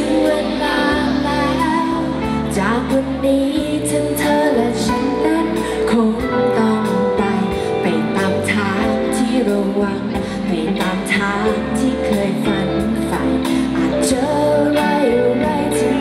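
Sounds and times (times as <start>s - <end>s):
bass: 0.0s - 16.0s
drums: 0.0s - 16.0s
woman singing: 0.0s - 16.0s.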